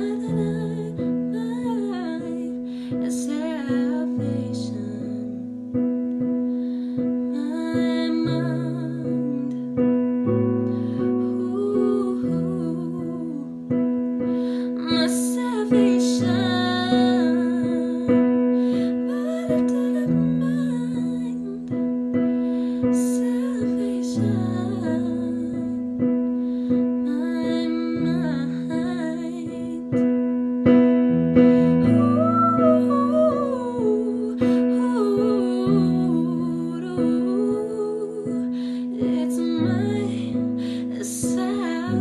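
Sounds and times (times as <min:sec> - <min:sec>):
girl singing a ballad: 0:00.0 - 0:42.0
piano accompaniment: 0:00.0 - 0:42.0.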